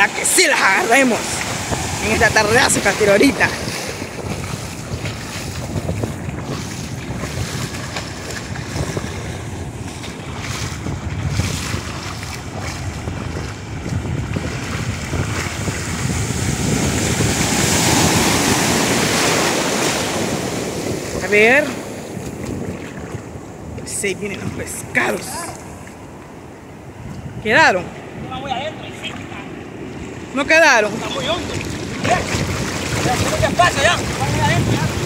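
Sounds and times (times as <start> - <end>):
ocean waves breaking: 0.0 - 35.0
wind buffeting microphone: 0.0 - 35.0.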